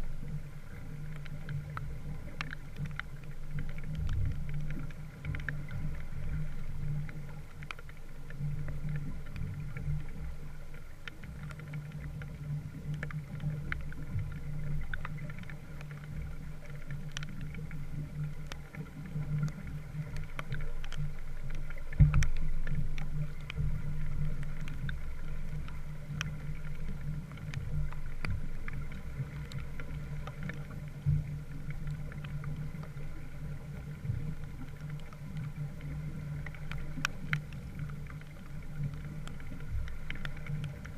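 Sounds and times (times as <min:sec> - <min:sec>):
light ticks: 0:00.0 - 0:40.9
steady low hum: 0:00.0 - 0:40.9.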